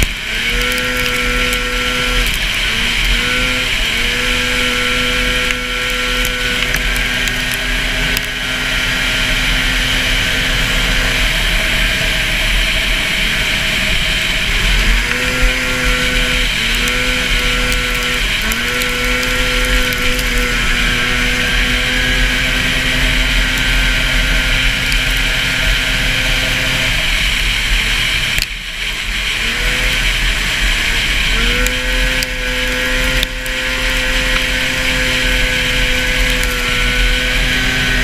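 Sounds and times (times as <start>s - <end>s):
snowmobile engine at high revs: 0.0s - 38.0s.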